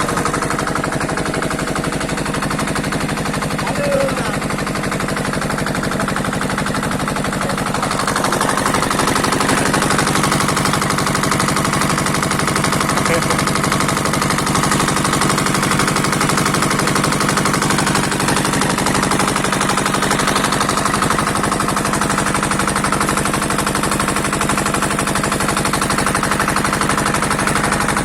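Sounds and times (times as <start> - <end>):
small boat engine running: 0.0 - 28.0.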